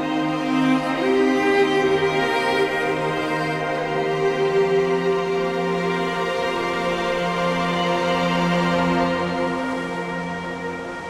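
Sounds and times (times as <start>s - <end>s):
slow sustained background music: 0.0s - 11.0s.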